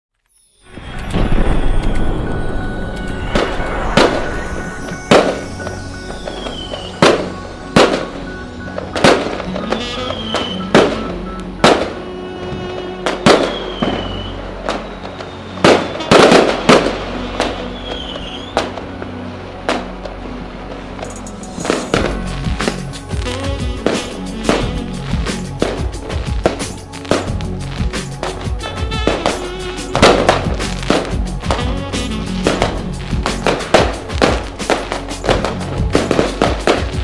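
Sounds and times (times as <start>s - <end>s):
fireworks bangs: 0.7s - 19.1s, 21.0s - 37.0s.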